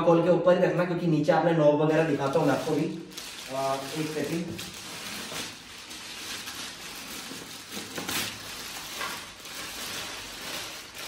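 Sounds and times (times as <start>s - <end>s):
plastic wrapping crinkling: 1.9s - 11.0s.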